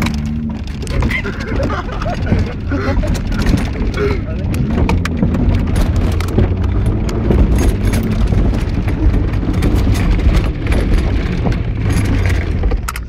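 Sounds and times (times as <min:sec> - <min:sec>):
car body knocks and rattles: 0:00.0 - 0:13.0
low engine rumble: 0:00.0 - 0:13.0.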